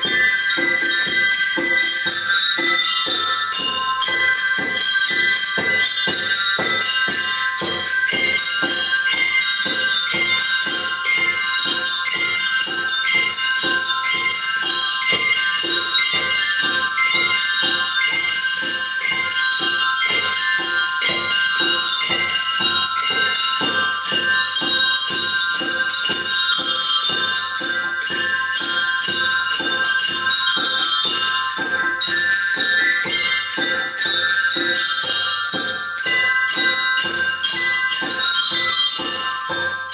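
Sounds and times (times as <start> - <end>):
glockenspiels playing: 0.0 - 39.9.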